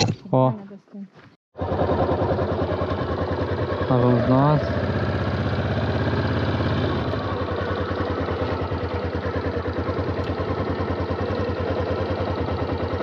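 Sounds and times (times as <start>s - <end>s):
motorcycle engine running: 1.6s - 13.0s.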